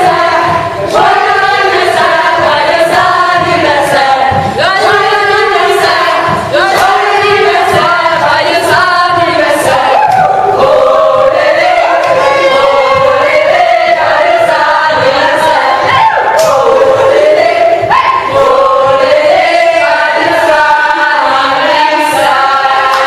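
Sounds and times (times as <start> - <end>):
group of people singing: 0.0 - 23.0.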